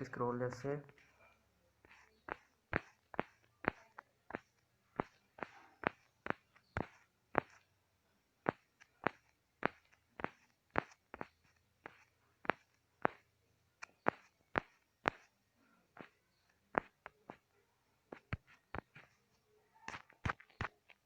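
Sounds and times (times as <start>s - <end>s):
taps on touchscreen: 1.8s - 7.7s, 8.5s - 21.0s.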